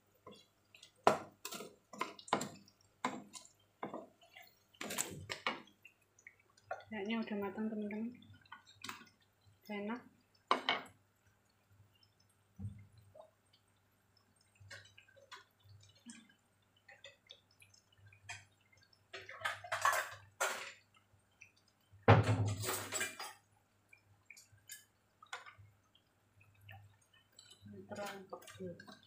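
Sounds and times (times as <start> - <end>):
food frying in oil: 0.0 - 29.0.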